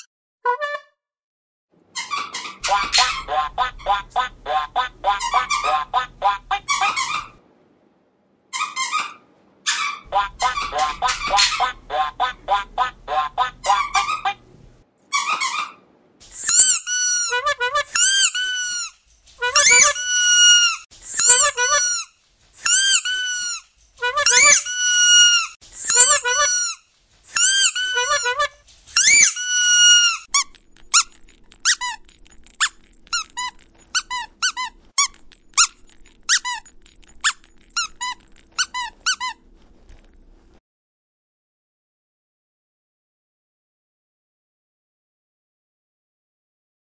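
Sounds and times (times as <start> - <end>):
rubber squeaky dog toy squeaking: 0.0 - 0.9, 1.9 - 7.4, 8.6 - 40.2.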